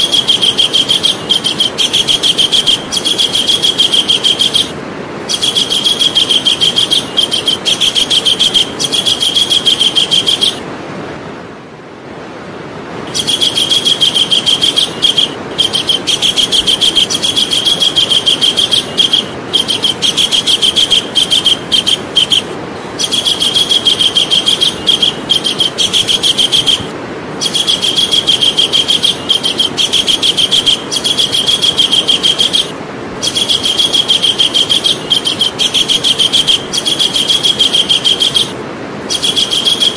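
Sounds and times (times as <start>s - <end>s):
kingfisher calling shrill notes: 0.0s - 10.6s, 13.1s - 39.9s.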